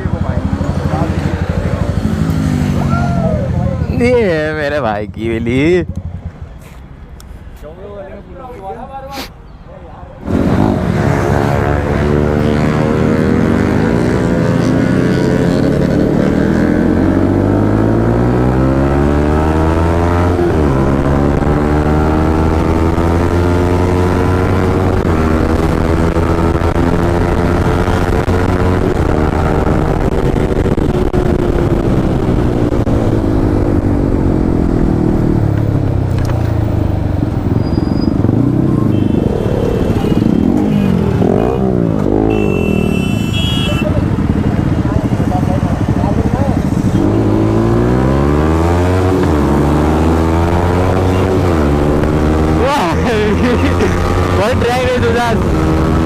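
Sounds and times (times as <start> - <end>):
motorcycle engine revving: 0.0 - 4.2, 10.2 - 56.0.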